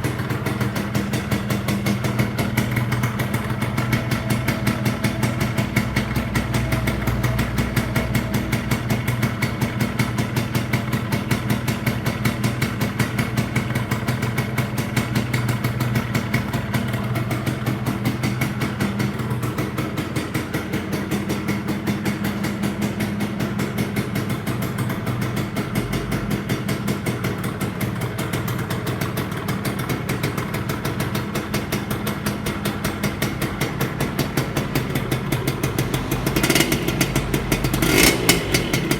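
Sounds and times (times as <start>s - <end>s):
two-stroke motorcycle engine idling: 0.0s - 38.9s.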